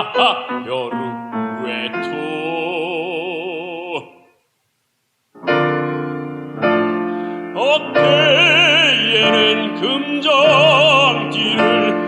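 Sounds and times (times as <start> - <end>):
piano: 0.0 - 4.2, 5.3 - 12.0
person singing with vibrato: 0.0 - 4.5, 5.6 - 12.0.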